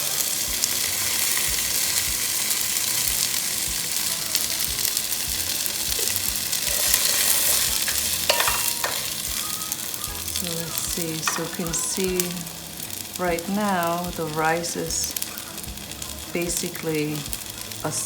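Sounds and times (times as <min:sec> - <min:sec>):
rice being stirred: 0:00.0 - 0:18.0
rice sizzling in hot oil: 0:00.0 - 0:18.0.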